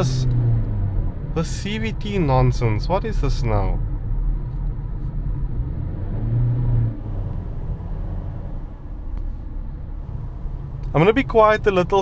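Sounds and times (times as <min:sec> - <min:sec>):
engine drone: 0:00.0 - 0:12.0
road rumble inside car: 0:00.0 - 0:12.0.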